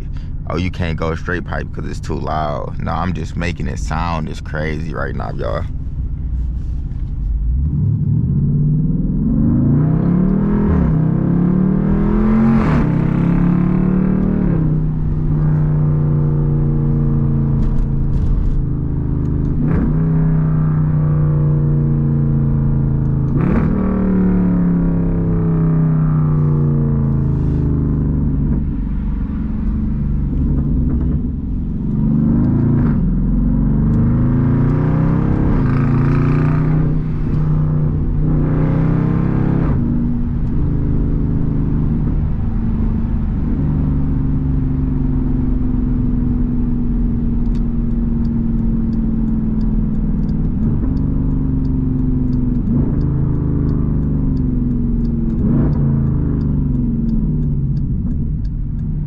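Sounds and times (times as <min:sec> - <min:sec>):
light regular ticking: 0:00.0 - 0:07.5, 0:13.5 - 0:23.4, 0:25.7 - 0:59.0
car exhaust accelerating: 0:00.0 - 0:59.0.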